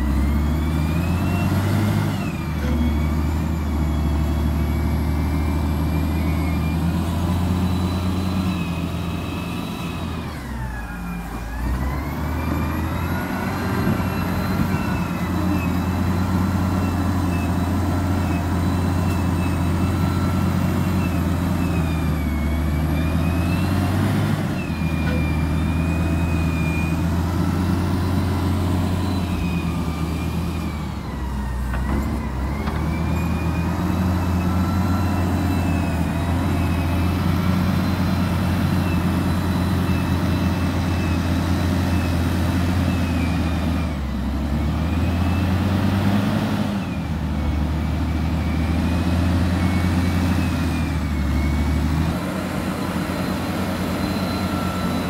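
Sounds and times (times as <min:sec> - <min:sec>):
loader diesel engine under load: 0:00.0 - 0:55.0.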